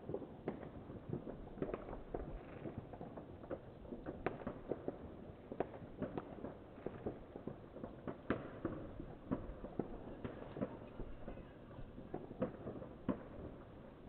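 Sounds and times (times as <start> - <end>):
distant firecrackers popping: 0.0 - 14.0.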